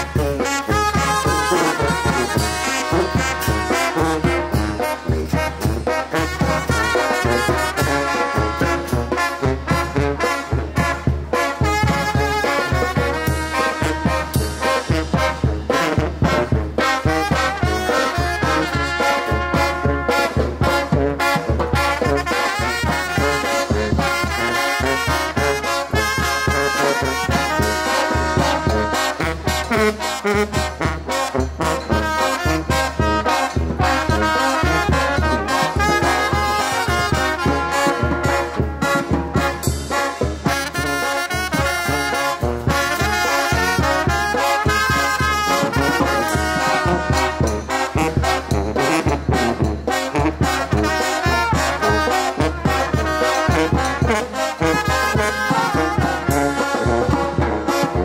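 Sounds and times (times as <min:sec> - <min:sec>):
brass band playing cumbia: 0:00.0 - 0:58.0
trombones and trumpets melody: 0:00.0 - 0:58.0.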